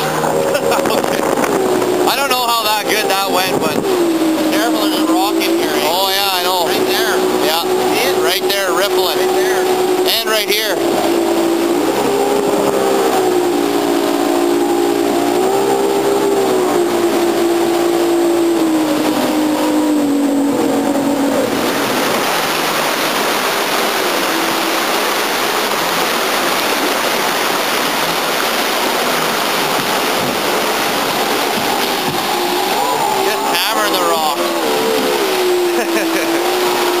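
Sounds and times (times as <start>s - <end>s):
boat engine running: 0.0s - 37.0s
river rapids rushing: 0.0s - 37.0s.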